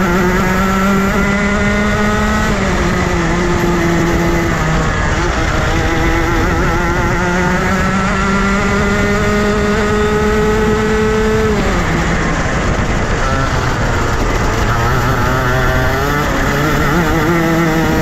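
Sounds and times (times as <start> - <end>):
kart engine revving: 0.0 - 18.0.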